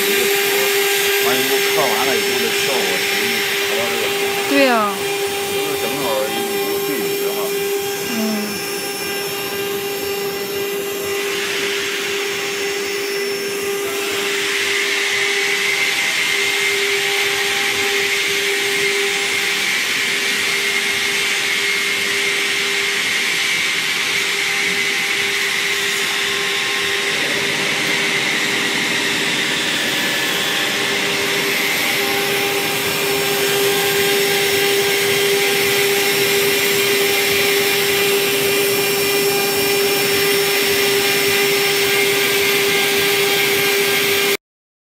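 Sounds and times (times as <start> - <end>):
router spindle whine: 0.0 - 44.4.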